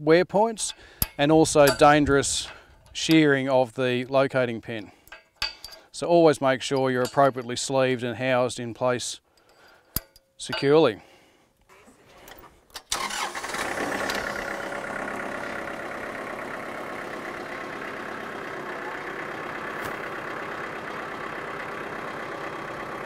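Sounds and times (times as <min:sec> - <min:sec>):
tractor engine starting and running: 0:00.5 - 0:07.7, 0:11.7 - 0:23.0.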